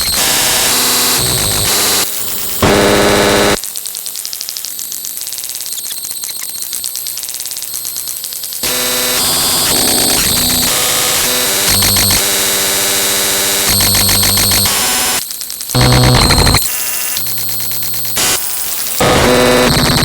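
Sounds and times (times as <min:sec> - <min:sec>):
buzzing electronic tones: 0:00.0 - 0:20.0
stuttering electronic static: 0:00.0 - 0:20.0.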